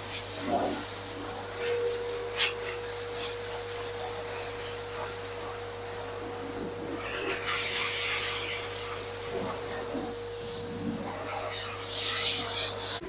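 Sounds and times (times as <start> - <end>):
dog grooming dryer blowing air: 0.0 - 13.0.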